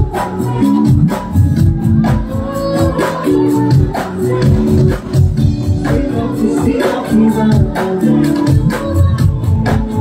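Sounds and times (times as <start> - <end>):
live band music: 0.0 - 10.0.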